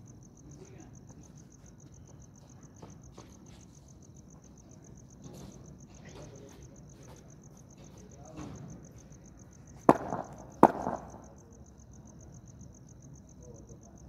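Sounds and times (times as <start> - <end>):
insect chirping pulses: 0.0 - 14.0.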